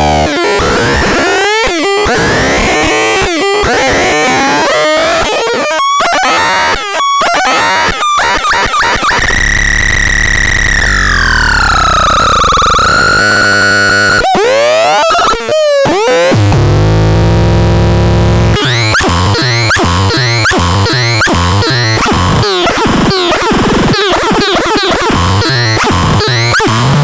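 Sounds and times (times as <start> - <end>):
harsh synthesizer tones: 0.0 - 27.0.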